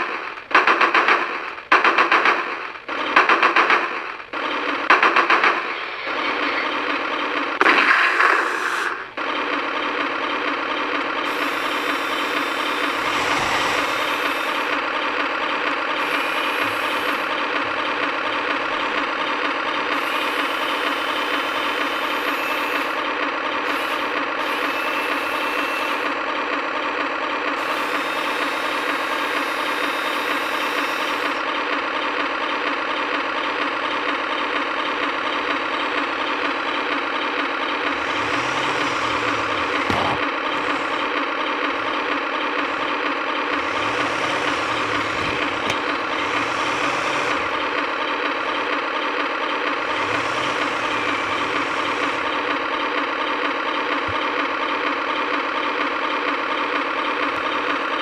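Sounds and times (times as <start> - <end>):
toy tank motor running: 0.0 - 58.0.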